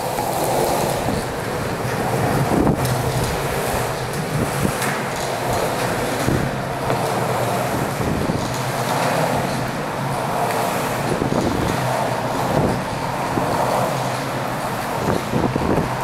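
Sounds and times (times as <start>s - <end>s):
longboard wheels rolling on concrete: 0.0s - 16.0s
wind noise on microphone: 0.0s - 16.0s.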